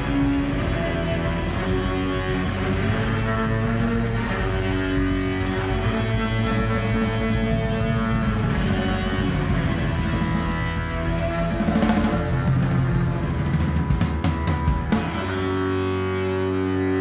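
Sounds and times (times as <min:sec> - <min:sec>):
fast rock drum beat: 0:00.0 - 0:16.8.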